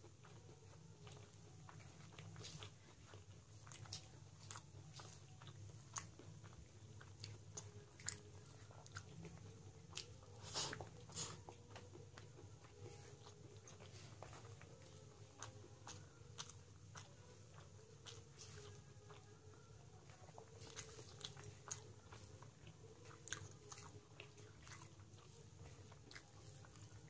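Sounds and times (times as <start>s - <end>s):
chewing and mouth clicks: 0.0s - 27.0s.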